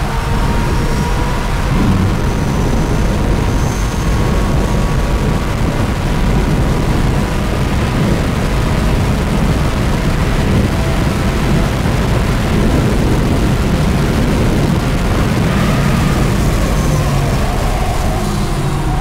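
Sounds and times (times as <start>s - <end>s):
wind and tyre noise in car cabin: 0.0s - 19.0s.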